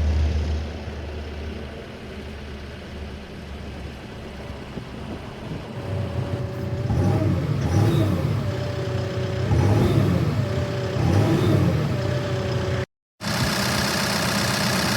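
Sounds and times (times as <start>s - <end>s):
diesel engine working under load: 0.0s - 14.9s
engine whine: 0.0s - 14.9s.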